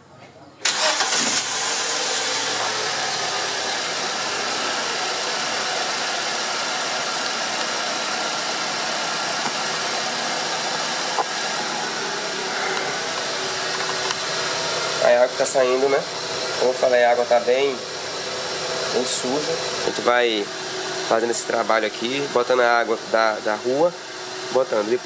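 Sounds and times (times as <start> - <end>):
car engine idling: 0.6 - 25.0.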